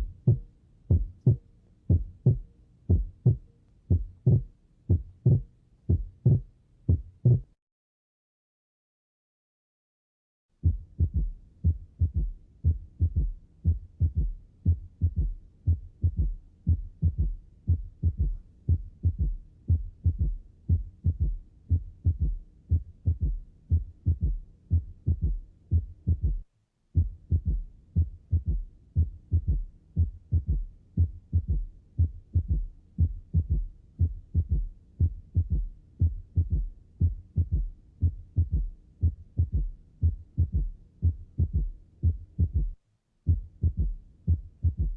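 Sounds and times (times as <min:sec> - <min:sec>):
heartbeat thuds: 0:00.0 - 0:07.5, 0:10.6 - 0:44.9.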